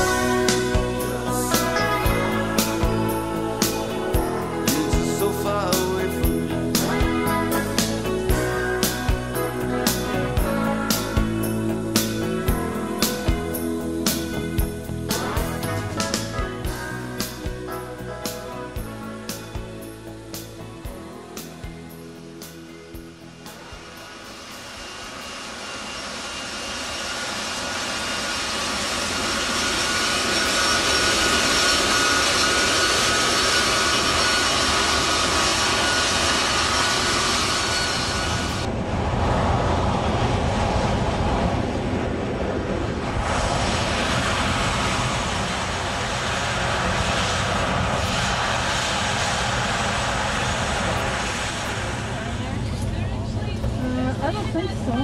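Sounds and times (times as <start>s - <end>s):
high turbine whine: 0.0s - 55.0s
jet engines roaring: 0.0s - 55.0s.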